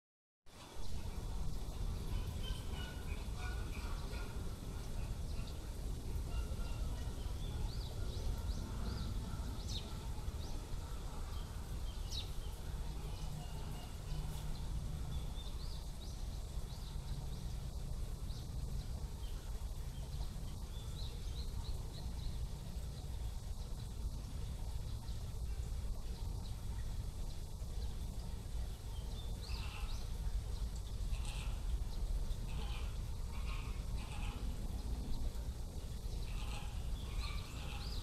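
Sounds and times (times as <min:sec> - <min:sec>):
low outdoor rumble: 0:00.5 - 0:38.0.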